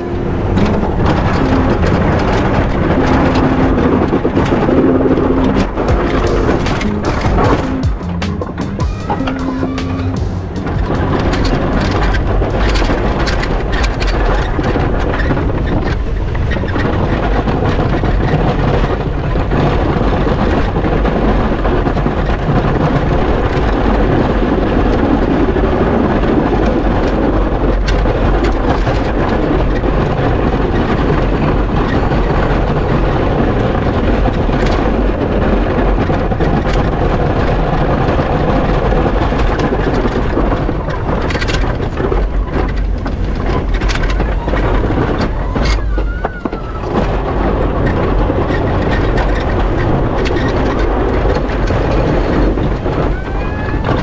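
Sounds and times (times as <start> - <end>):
plow blade scraping snow: 0.0 - 54.0
truck engine under load: 0.0 - 54.0.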